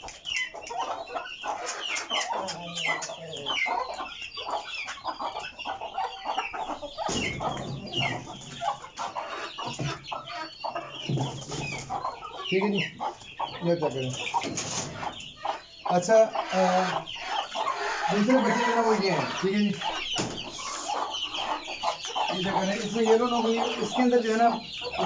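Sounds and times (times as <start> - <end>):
chickens clucking: 0.0 - 25.0
chicks peeping: 0.0 - 25.0.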